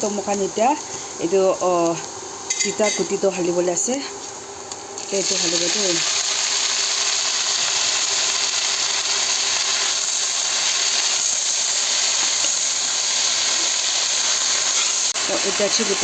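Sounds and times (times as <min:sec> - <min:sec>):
eggplant sizzling in hot oil: 0:00.0 - 0:16.0.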